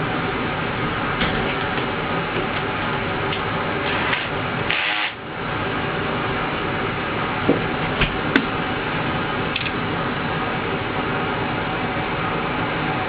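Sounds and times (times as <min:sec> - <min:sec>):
workshop background noise: 0:00.0 - 0:12.0.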